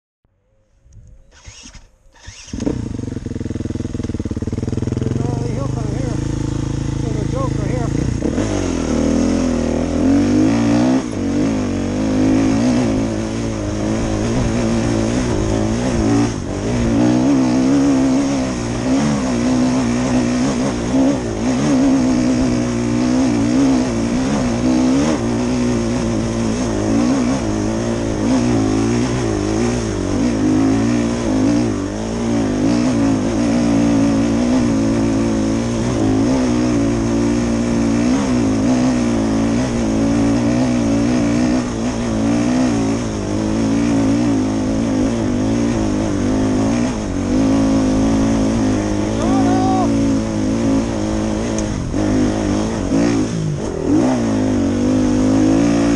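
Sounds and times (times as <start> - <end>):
dirt bike engine revving: 1.3 - 55.9.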